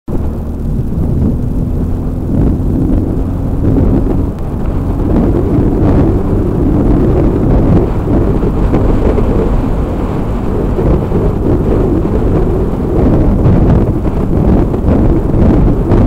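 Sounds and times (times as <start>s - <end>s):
motorcycle engine running: 0.1s - 16.0s
wind buffeting microphone: 0.1s - 16.0s.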